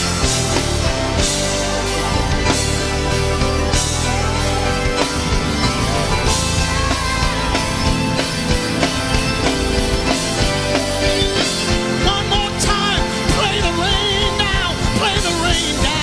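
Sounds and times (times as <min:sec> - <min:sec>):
drum kit: 0:00.0 - 0:16.0
live band playing instrumental music: 0:00.0 - 0:16.0.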